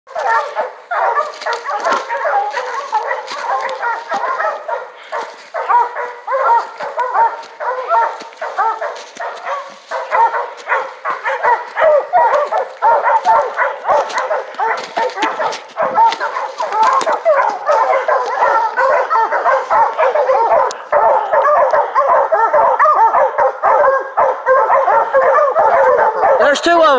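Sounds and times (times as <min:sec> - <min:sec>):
hounds baying and barking: 0:00.1 - 0:26.9.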